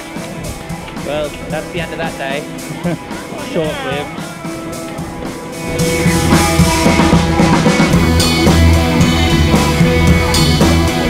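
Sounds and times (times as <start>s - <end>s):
background music with drums: 0.0s - 11.0s.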